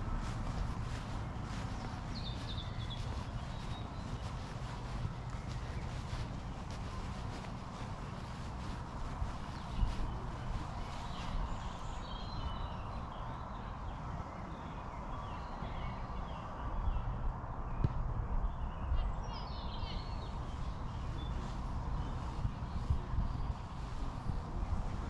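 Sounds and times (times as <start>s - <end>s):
steady low rumble: 0.0s - 14.2s, 16.2s - 25.0s
songbirds chirping: 0.0s - 25.0s.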